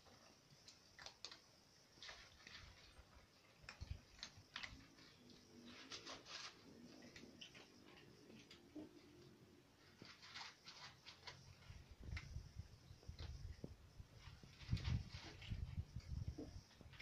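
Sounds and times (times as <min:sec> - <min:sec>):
cats chewing food: 0:00.0 - 0:17.0.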